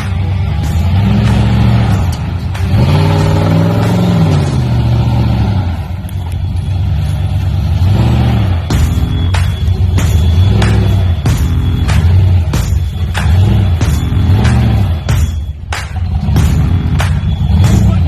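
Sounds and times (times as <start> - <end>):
engine revving: 0.0 - 18.0.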